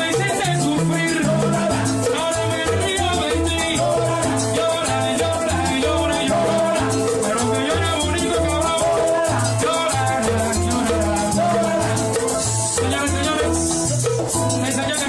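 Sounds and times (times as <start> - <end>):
maracas shaking: 0.0 - 15.0
salsa band playing: 0.0 - 15.0
syncopated bass line: 0.0 - 15.0.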